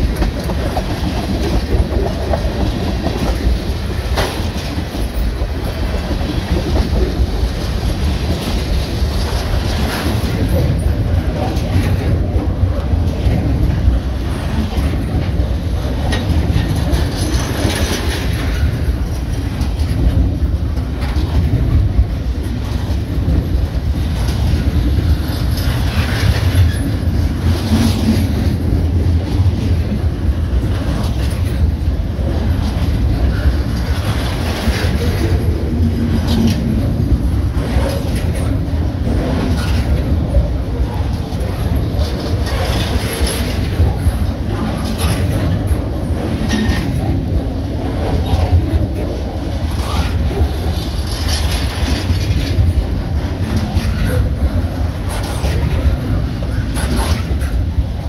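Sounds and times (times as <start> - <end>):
freight train wheels rumbling: 0.0 - 58.0
wheels clacking on rails: 0.0 - 58.0.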